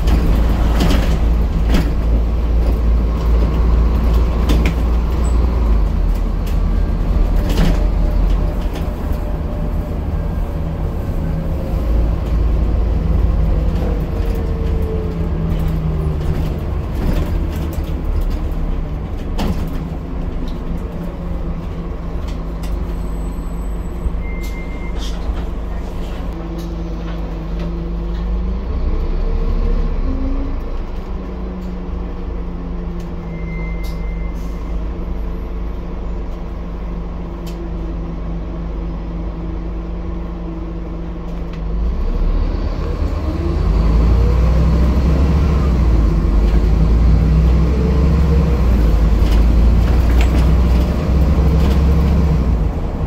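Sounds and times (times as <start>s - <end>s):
bus diesel engine rumbling: 0.0s - 53.0s.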